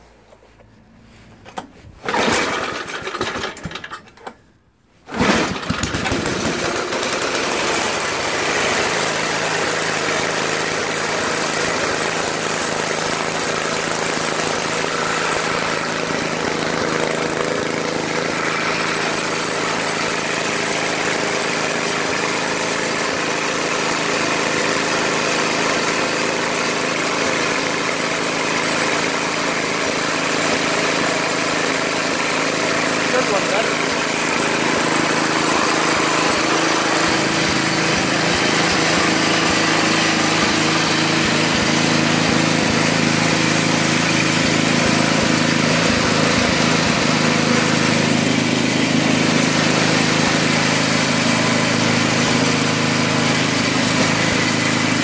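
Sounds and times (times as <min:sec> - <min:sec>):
snowblower engine pull-started: 0:00.0 - 0:55.0
snowblower engine running steadily: 0:01.4 - 0:55.0.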